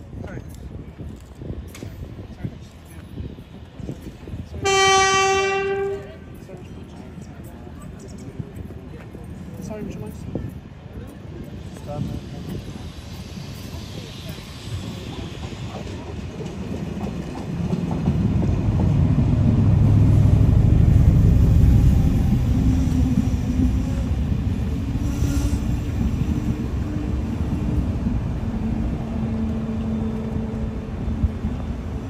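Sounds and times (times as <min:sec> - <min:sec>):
train coaches rumbling past: 0:00.0 - 0:32.0.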